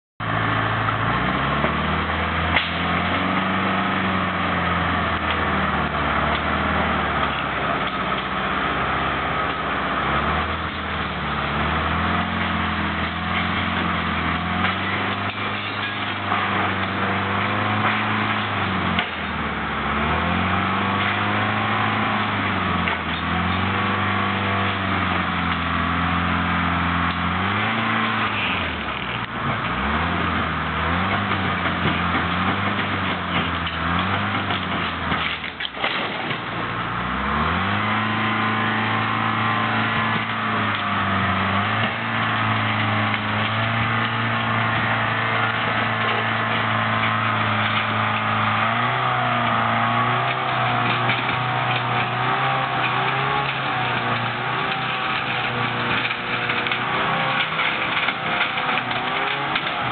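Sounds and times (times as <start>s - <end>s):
diesel engine revving under load: 0.2s - 59.9s.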